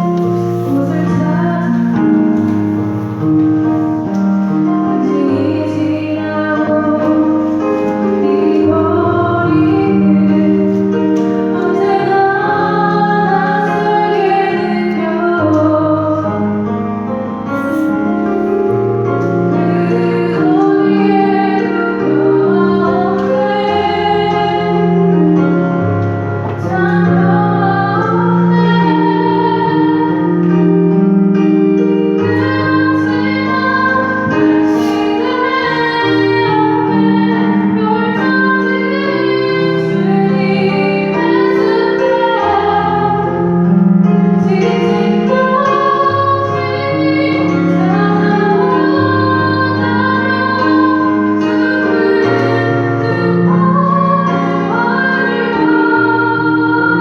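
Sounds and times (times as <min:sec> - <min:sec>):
woman singing: 0:00.0 - 0:03.0, 0:04.7 - 0:16.8, 0:19.2 - 0:25.0, 0:26.4 - 0:30.7, 0:32.2 - 0:57.0
keyboard sustained chords: 0:00.0 - 0:57.0.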